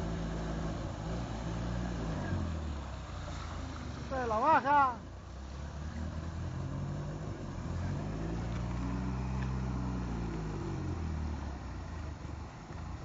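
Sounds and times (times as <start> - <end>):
off-road engine revving: 0.0 - 13.0
rushing water: 0.0 - 13.0.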